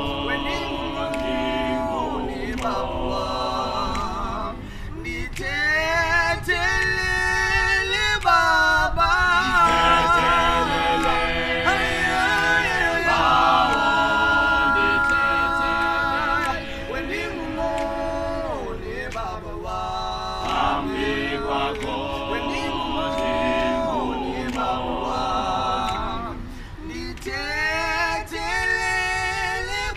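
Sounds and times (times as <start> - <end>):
a cappella group singing in harmony: 0.0 - 29.9.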